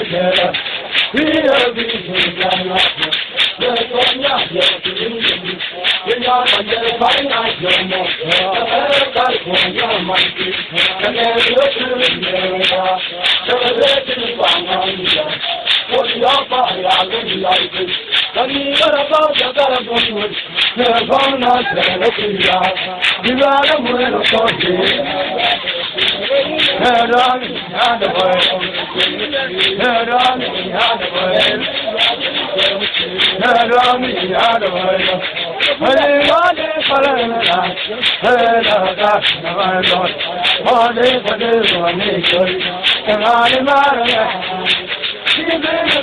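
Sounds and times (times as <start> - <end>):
crowd singing and chanting: 0.0 - 46.0
sharp percussive hits: 0.0 - 46.0
sharp rattling strikes: 0.0 - 46.0.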